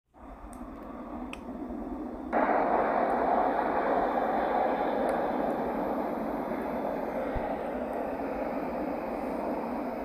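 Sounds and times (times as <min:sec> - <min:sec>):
jet engines roaring: 0:00.1 - 0:10.0.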